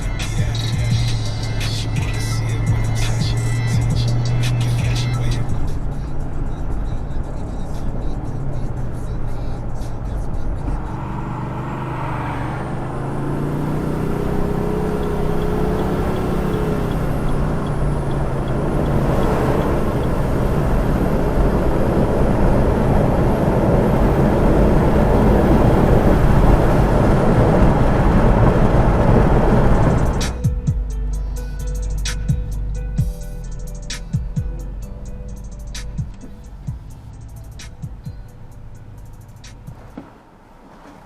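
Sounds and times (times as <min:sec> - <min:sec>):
car engine: 0:00.0 - 0:41.0
road noise: 0:00.0 - 0:41.0.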